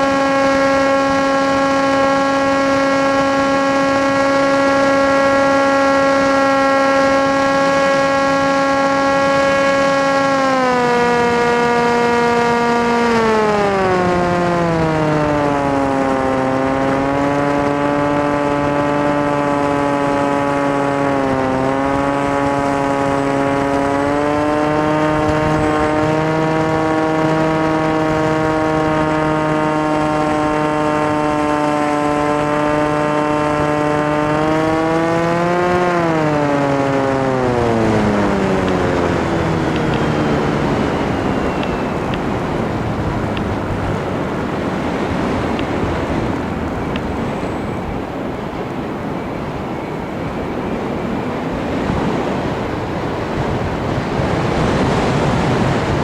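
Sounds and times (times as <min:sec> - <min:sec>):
model aircraft propeller whining: 0:00.0 - 0:56.0.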